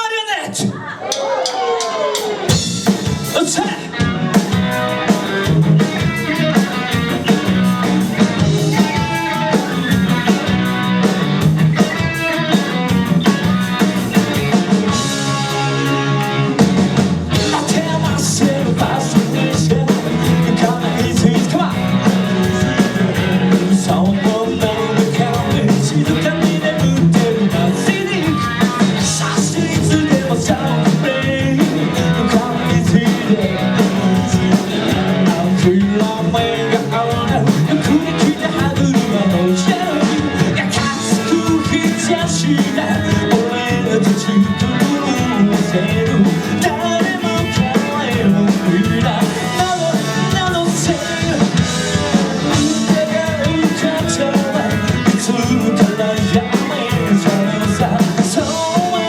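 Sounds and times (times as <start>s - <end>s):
drum kit: 0.0s - 59.0s
bass guitar: 0.5s - 59.0s
electric guitar: 1.8s - 59.0s.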